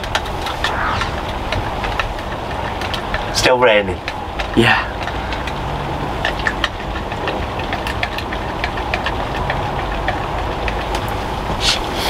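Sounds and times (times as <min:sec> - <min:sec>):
low rain rumble: 0:00.0 - 0:12.0
raindrops tapping: 0:01.5 - 0:11.6.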